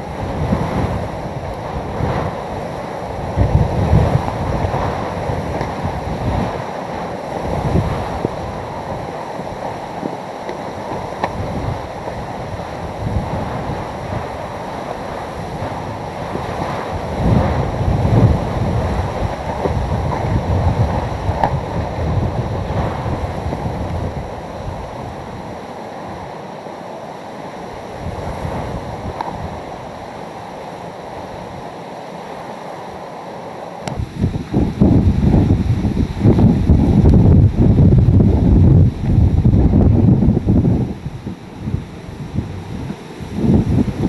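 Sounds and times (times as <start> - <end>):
wind buffeting the microphone: 0.0 - 26.4, 27.6 - 31.8, 33.8 - 44.0
strong gusting wind: 0.0 - 44.0.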